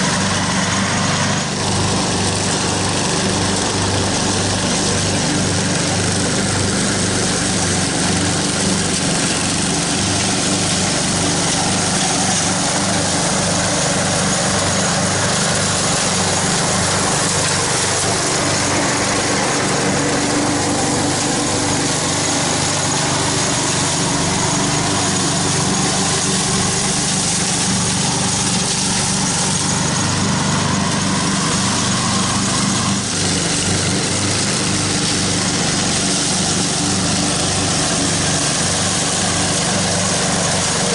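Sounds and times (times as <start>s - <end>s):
mower blades shredding dry leaves: 0.0s - 40.9s
riding lawn mower engine drone: 0.0s - 40.9s.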